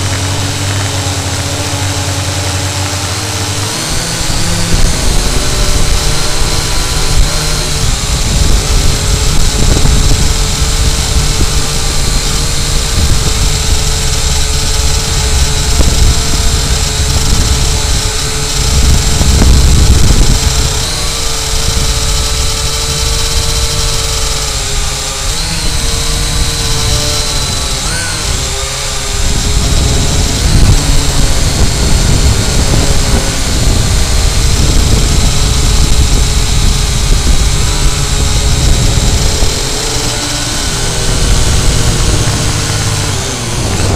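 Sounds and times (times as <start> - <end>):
drone propellers whining: 0.0 - 43.9
wind rumble on microphone: 0.0 - 43.9.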